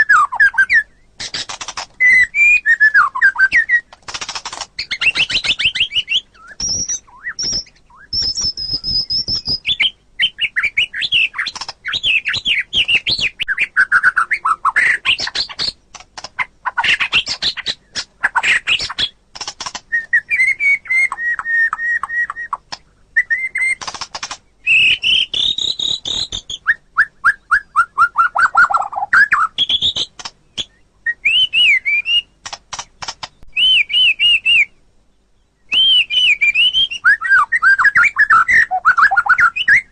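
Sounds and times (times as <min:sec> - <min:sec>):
songbird singing varied whistles: 0:00.0 - 0:03.9, 0:04.8 - 0:15.8, 0:19.9 - 0:22.6, 0:23.2 - 0:23.8, 0:24.6 - 0:32.4, 0:33.0 - 0:34.8, 0:35.4 - 0:39.9.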